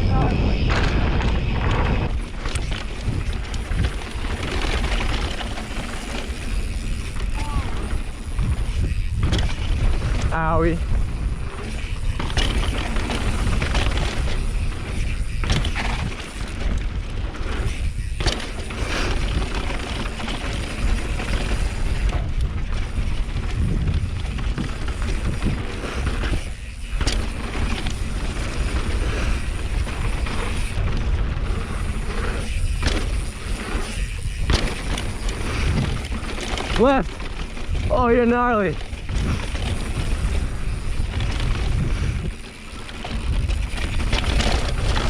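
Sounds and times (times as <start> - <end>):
bike tyre and chain rattle: 0.0 - 45.0
wind rumble on microphone: 0.0 - 45.0.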